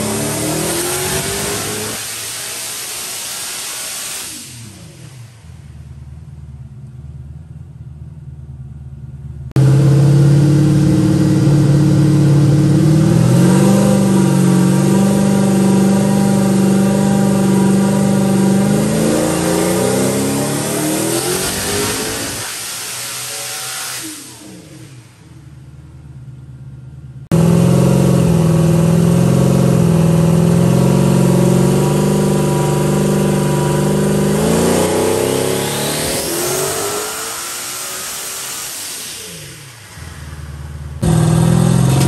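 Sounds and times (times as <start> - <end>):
engine revving on a dyno: 0.0 - 5.7, 9.5 - 25.4, 27.3 - 42.0
high rising turbo whine: 0.0 - 8.7, 9.5 - 26.3, 27.2 - 42.0.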